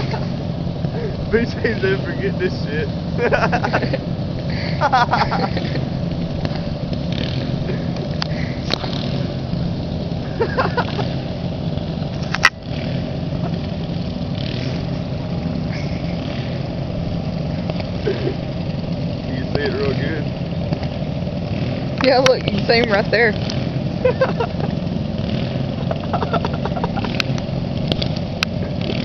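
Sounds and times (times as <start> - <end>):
riding lawn mower engine running: 0.0 - 29.0.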